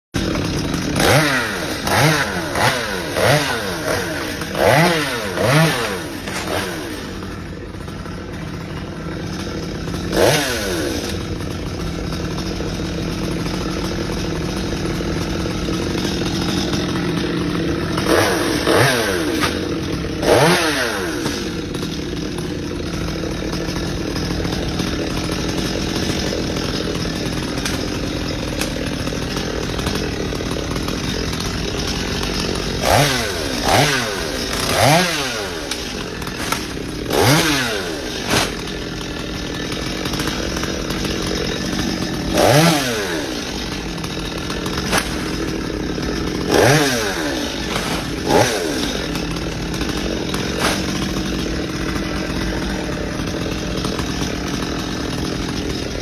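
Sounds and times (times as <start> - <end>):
chainsaw engine revving: 0.2 - 56.0.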